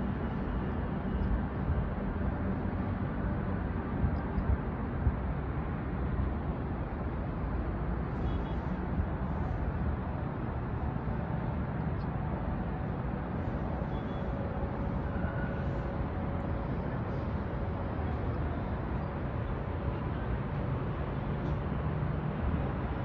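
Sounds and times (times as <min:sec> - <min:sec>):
city traffic hum: 0:00.0 - 0:23.0.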